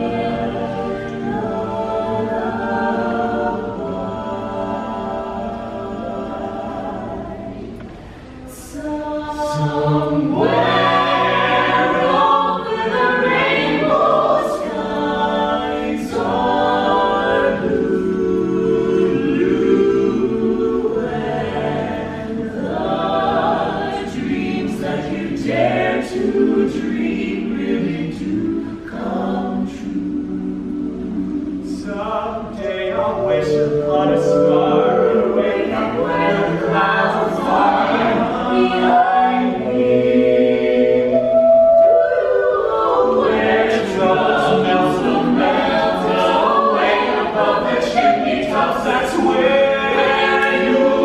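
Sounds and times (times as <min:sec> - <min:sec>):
a cappella ensemble singing: 0:00.0 - 0:51.0.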